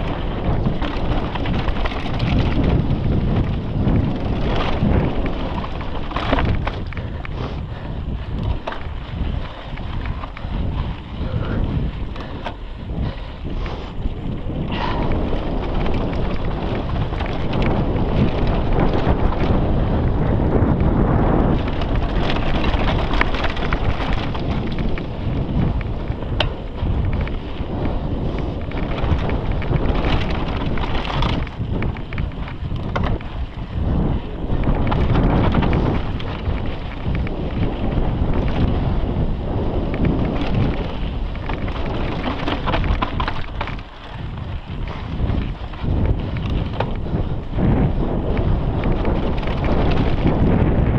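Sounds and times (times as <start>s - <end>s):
bike knocks and rattles: 0.0s - 50.9s
tyres rolling over loose dirt: 0.0s - 50.9s
wind buffeting microphone: 0.0s - 50.9s.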